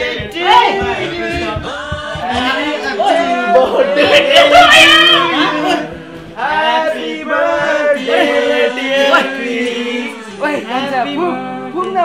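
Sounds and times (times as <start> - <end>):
men singing together: 0.0 - 12.0.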